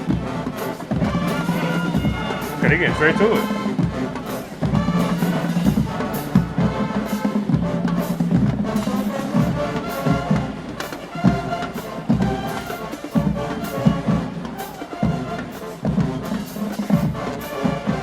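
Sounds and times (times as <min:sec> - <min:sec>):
brass holding low chords: 0:00.0 - 0:18.0
marching drum hits: 0:00.0 - 0:18.0.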